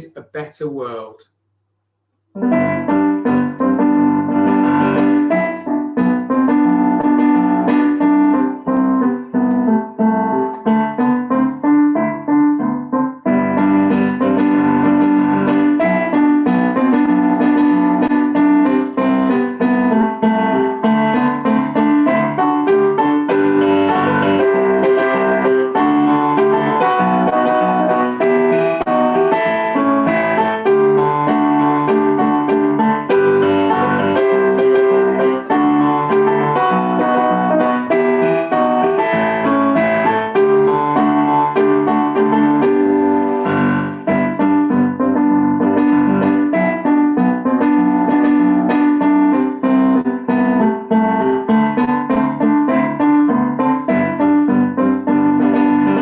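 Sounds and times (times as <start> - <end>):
piano music: 0.0 - 1.1, 2.3 - 56.0.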